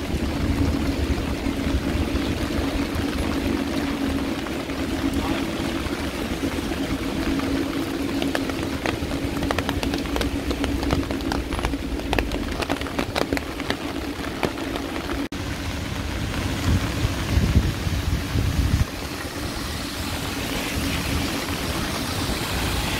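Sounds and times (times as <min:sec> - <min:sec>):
heavy rain on street: 0:00.0 - 0:22.9
low traffic hum: 0:00.0 - 0:22.9
raindrop ticks: 0:00.0 - 0:22.9
vehicle rumble: 0:00.0 - 0:22.9.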